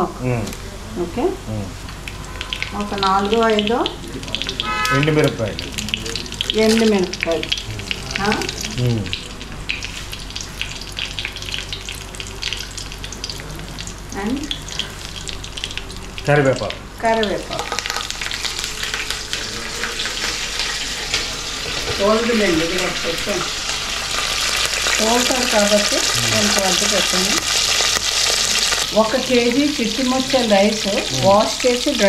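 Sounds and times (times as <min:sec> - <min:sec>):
spices sizzling in hot oil: 0:01.2 - 0:32.0.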